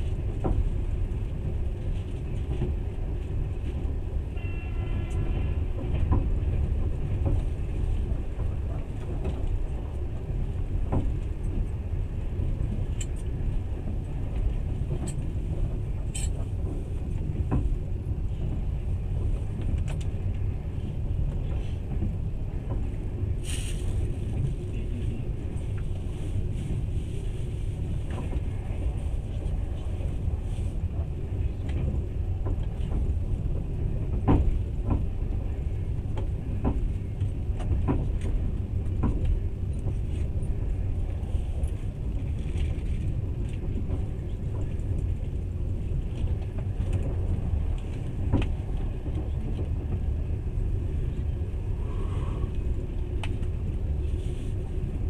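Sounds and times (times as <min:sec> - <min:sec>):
train carriage rumble: 0:00.0 - 0:55.0.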